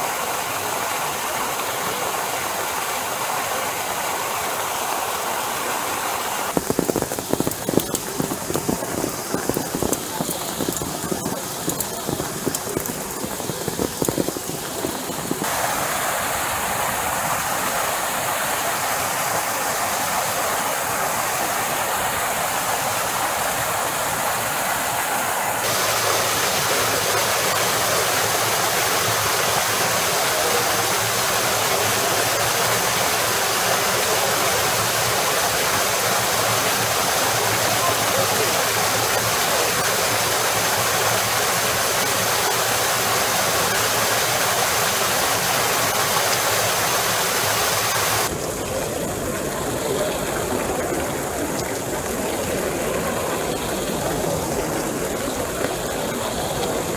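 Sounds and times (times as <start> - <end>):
fountain water splashing into basin: 0.0 - 56.9.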